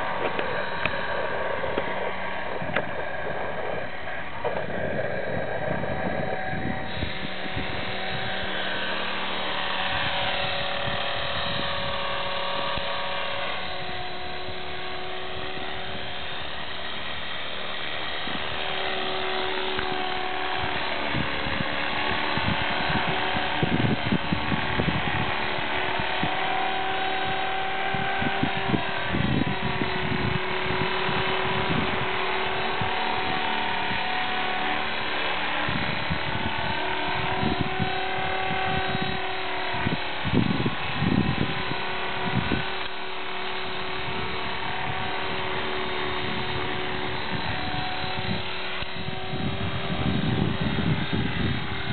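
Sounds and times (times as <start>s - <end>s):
rc helicopter motor and rotor whine: 0.0s - 51.9s
wind rumble on microphone: 0.0s - 51.9s.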